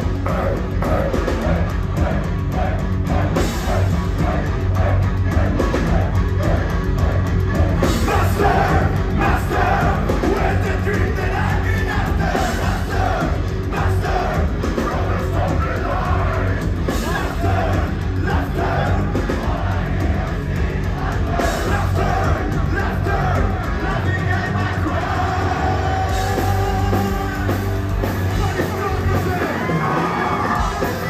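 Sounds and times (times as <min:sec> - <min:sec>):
crowd shouting: 0:00.0 - 0:31.0
heavy metal band playing live: 0:00.0 - 0:31.0.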